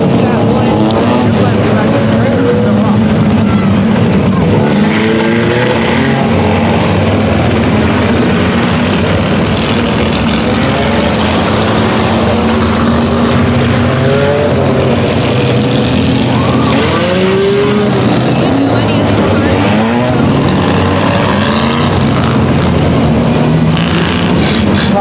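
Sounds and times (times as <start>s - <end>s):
dirt-track car engines revving: 0.0s - 25.0s.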